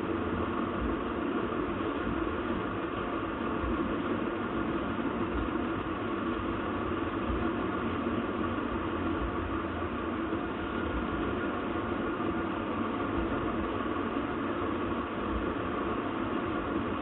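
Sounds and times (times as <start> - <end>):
steady background hum and hiss: 0.0 - 17.0.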